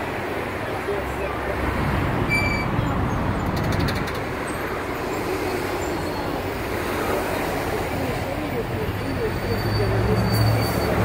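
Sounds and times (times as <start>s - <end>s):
freeway traffic noise: 0.0s - 11.0s.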